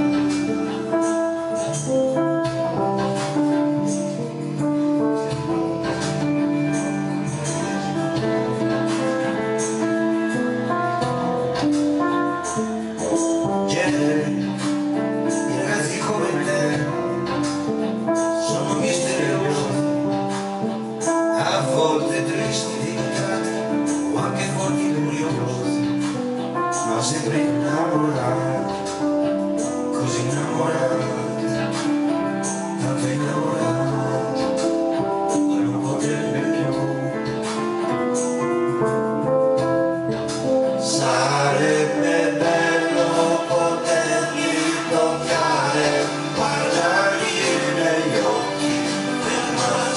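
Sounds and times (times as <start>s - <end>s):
keyboard chords: 0.0s - 49.9s
plucked guitar-like accompaniment: 0.0s - 49.9s.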